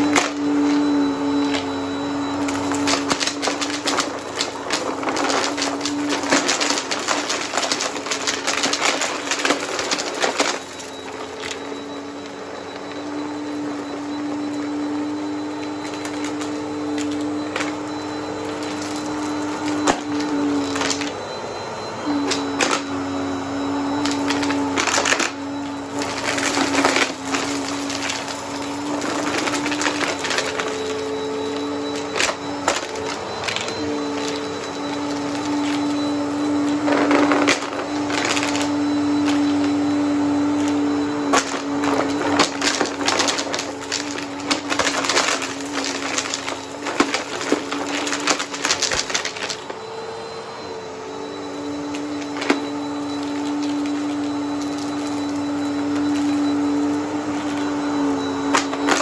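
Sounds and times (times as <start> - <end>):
vacuum cleaner motor hum: 0.0 - 59.0.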